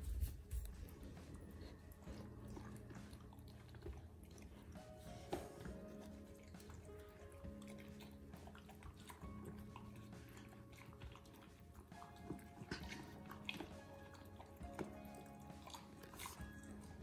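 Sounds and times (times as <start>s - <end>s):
puppies chewing vegetables: 0.0s - 17.0s
soft background music: 0.0s - 17.0s.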